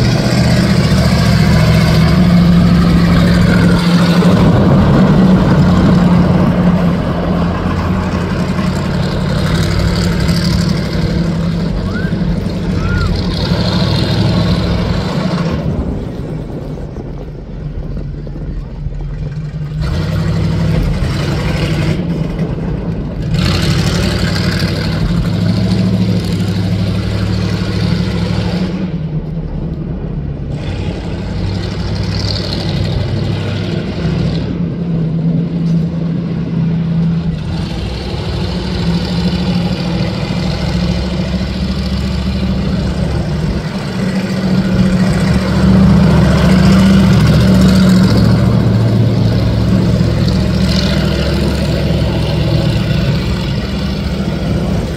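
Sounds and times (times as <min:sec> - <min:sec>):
car engines running slowly: 0:00.0 - 0:54.9.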